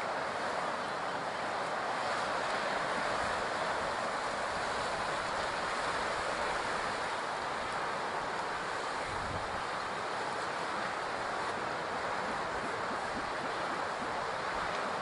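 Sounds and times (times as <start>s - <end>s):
ocean surf on a beach: 0.0s - 15.0s.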